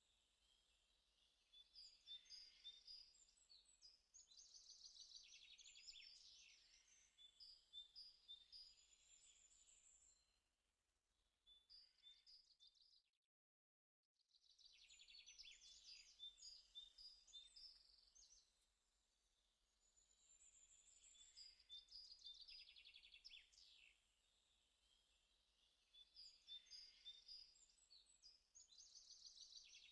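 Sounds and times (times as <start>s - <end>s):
faint songbirds chirping: 0.0s - 13.1s, 14.2s - 29.9s.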